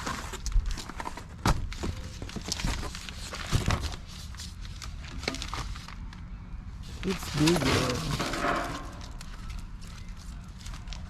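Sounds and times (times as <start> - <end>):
packaging rustling: 0.0 - 6.2, 6.9 - 11.0.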